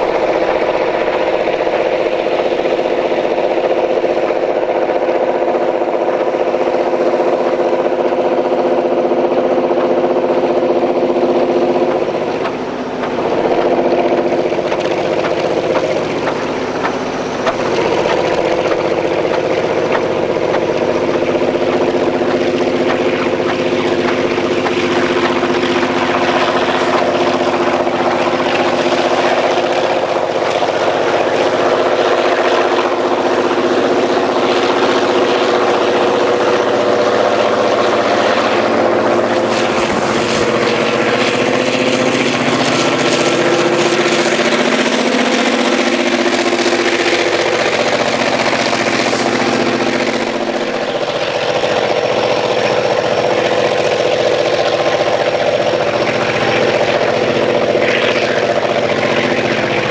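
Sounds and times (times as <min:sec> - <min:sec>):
railroad diesel engines running: 0:00.0 - 0:59.9.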